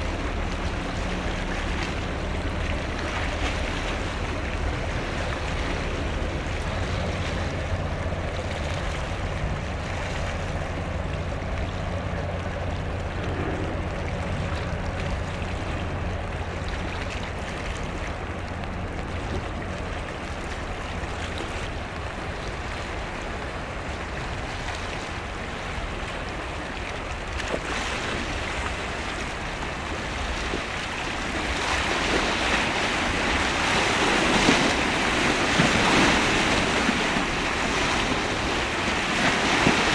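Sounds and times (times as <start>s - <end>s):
ship engine droning: 0.0s - 39.9s
wind and water rushing: 0.0s - 39.9s.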